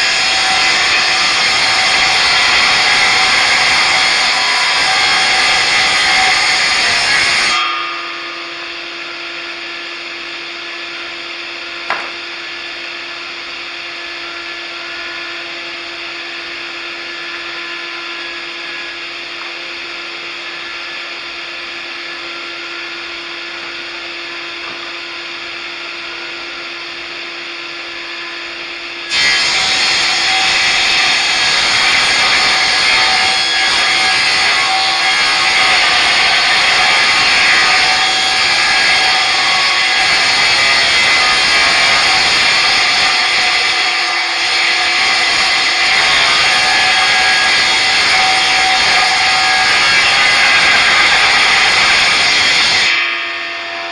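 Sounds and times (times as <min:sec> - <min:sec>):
power saw cutting timber: 0:00.0 - 0:53.9.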